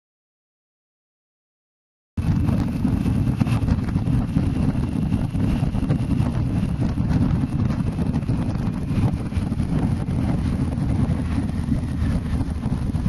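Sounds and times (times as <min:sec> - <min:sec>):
road noise: 0:02.2 - 0:13.0
wind buffeting microphone: 0:02.2 - 0:13.0.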